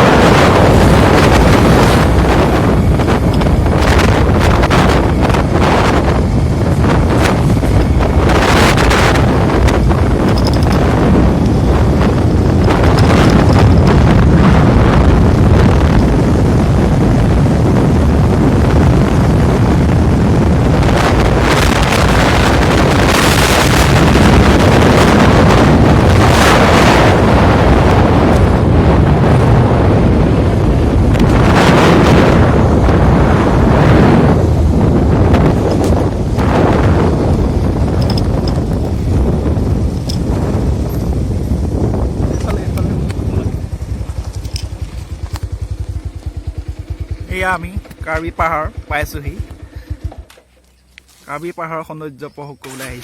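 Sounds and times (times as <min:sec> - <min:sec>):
wind buffeting microphone: 0:00.0 - 0:51.7.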